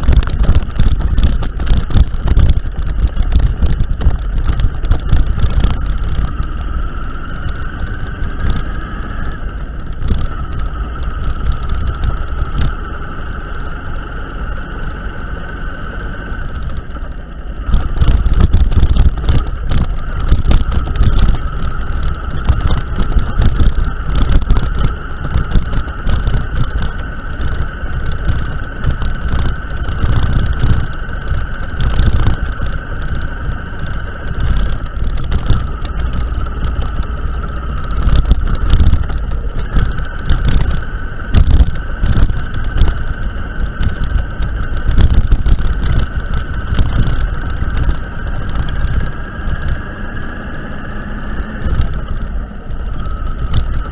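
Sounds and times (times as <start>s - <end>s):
knocks and rattles: 0.0s - 53.9s
steady whine: 0.0s - 53.9s
vehicle rumble on rough road: 0.0s - 53.9s.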